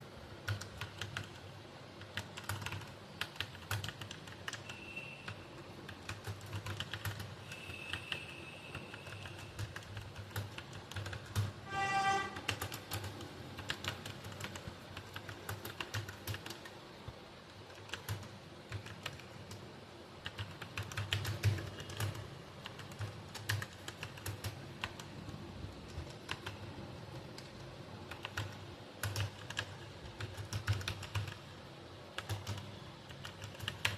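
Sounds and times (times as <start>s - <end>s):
typing on computer keyboard: 0.1s - 16.8s, 17.5s - 33.9s.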